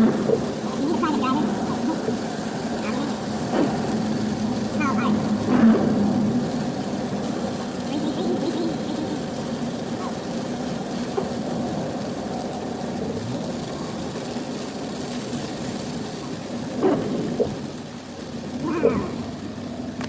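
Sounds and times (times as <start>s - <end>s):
car engine hum: 0.0s - 20.0s
tyres on wet road: 0.0s - 20.0s.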